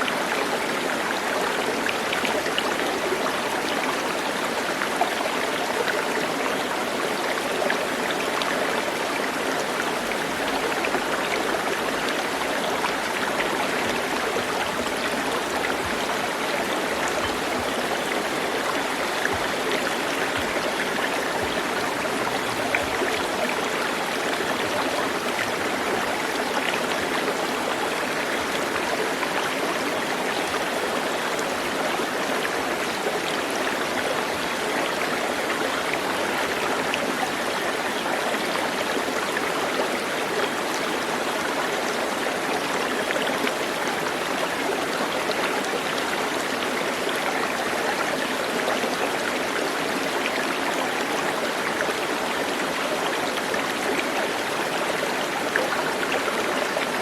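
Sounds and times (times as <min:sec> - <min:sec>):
stream of running water: 0:00.0 - 0:57.0.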